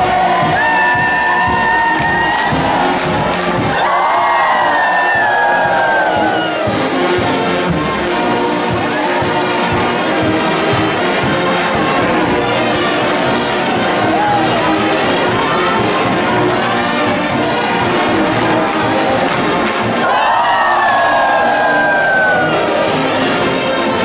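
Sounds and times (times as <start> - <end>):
brass band playing chords: 0.0 - 24.0
crowd cheering and shouting: 0.0 - 24.0.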